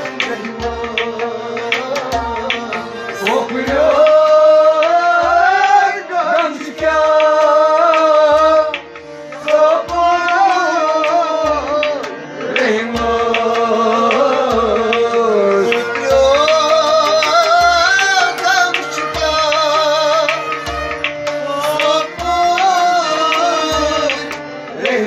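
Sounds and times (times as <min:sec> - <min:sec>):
harmonium reed tones: 0:00.0 - 0:25.0
man singing: 0:00.0 - 0:25.0.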